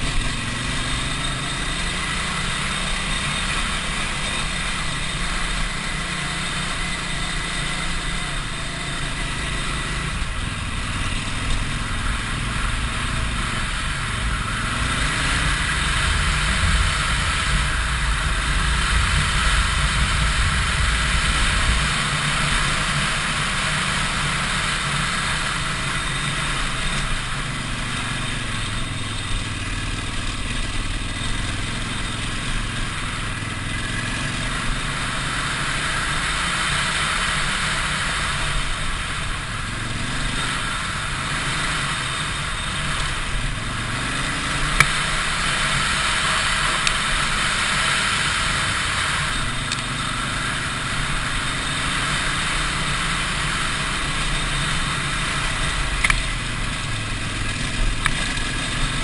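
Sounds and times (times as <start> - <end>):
motorcycle engine revving: 0.0 - 59.0
steady rushing hiss: 0.0 - 59.0.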